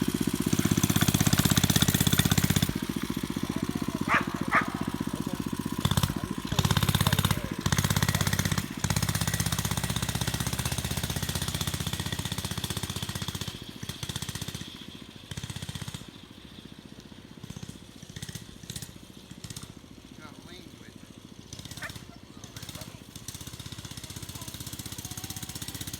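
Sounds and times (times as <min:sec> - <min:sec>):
small motorcycle engine: 0:00.0 - 0:25.9.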